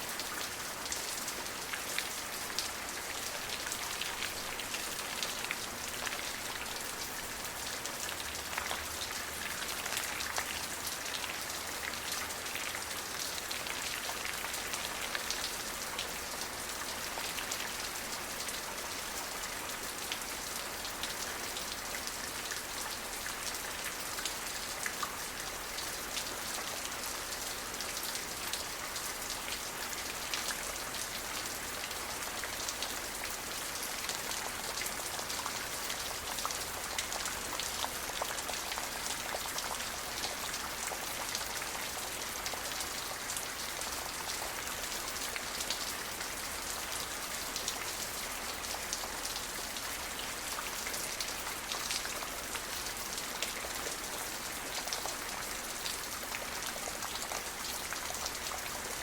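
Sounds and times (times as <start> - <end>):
rain drops ticking on hard surface: 0.2 - 59.0.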